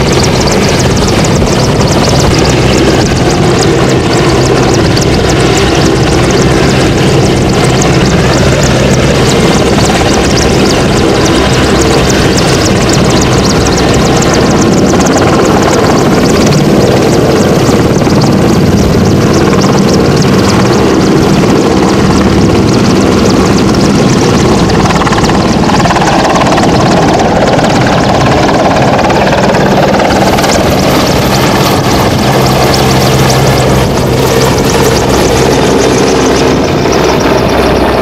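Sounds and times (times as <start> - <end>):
helicopter rotor beat: 0.0 - 38.0
turbine engines: 0.0 - 38.0.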